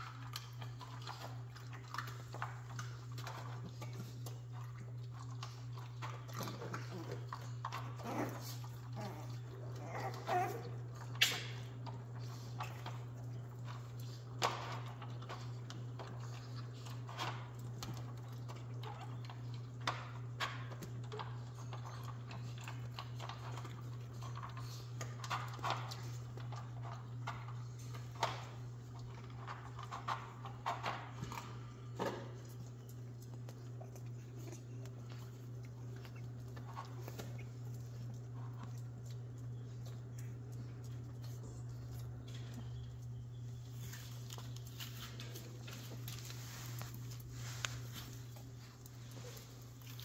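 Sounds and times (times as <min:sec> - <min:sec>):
puppy claws tapping and scraping: 0:00.0 - 0:50.0
steady low hum: 0:00.0 - 0:50.0.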